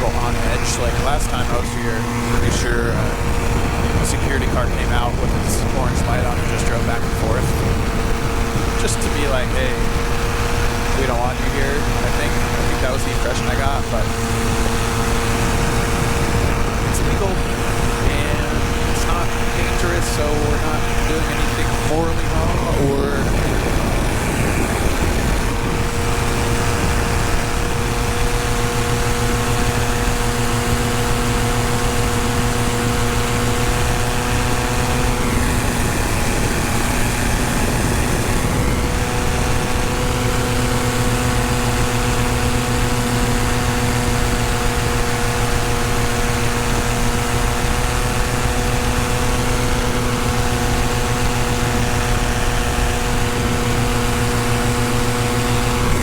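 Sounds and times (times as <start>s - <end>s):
paramotor engine droning: 0.0s - 56.0s.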